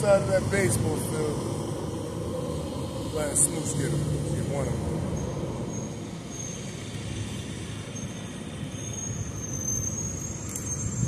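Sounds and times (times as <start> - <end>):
faint high-pitched squeal: 0.0 - 11.0
street traffic rumbling: 0.0 - 11.0.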